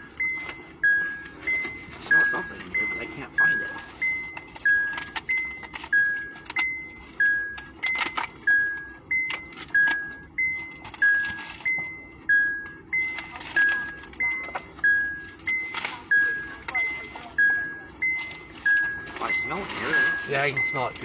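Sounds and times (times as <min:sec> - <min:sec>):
car warning chime dinging: 0:00.0 - 0:21.0
clicks and rustling of handling: 0:00.1 - 0:21.0.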